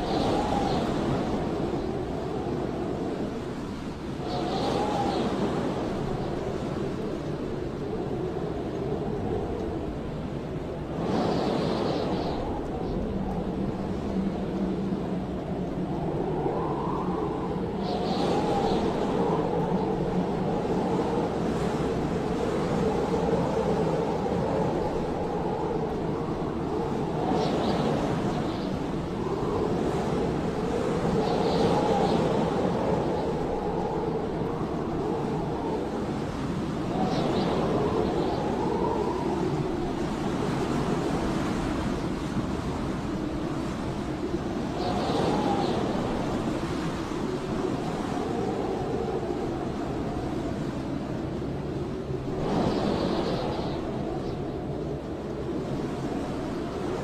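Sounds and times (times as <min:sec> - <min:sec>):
blizzard wind blowing: 0:00.0 - 0:57.0.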